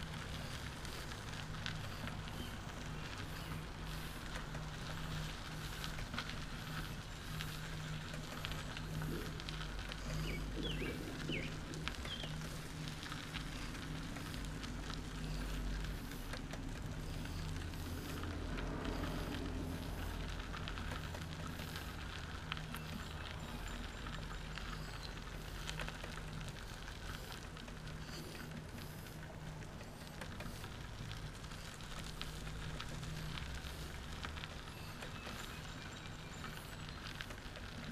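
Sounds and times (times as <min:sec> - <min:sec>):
crackling rolling and wind noise: 0:00.0 - 0:37.9
low steady hum: 0:00.0 - 0:37.9.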